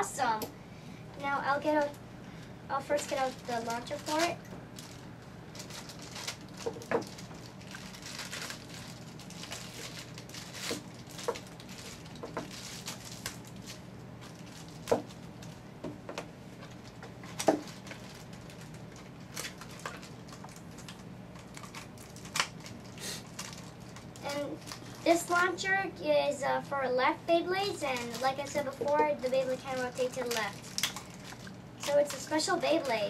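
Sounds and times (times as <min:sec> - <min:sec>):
faint low hum: 0:00.0 - 0:33.0
plastic packaging crinkling: 0:02.8 - 0:15.7, 0:16.6 - 0:25.6, 0:27.6 - 0:33.0.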